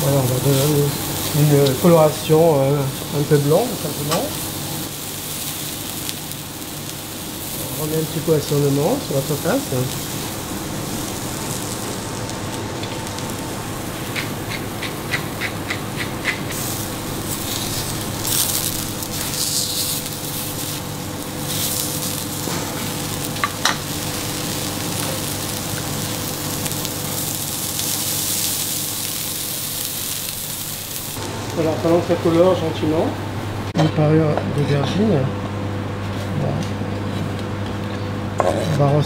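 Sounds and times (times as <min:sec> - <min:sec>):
aubergines sizzling in oil: 0:00.0 - 0:32.6.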